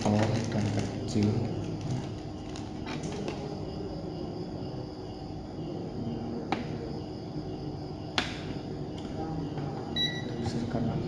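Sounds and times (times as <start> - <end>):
faint cricket chirping: 0.0 - 11.0
low room noise: 0.0 - 11.0.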